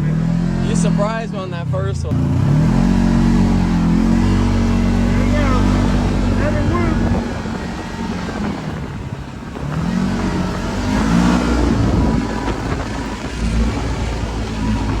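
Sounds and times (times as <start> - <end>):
utility vehicle engine revving: 0.0 - 15.0.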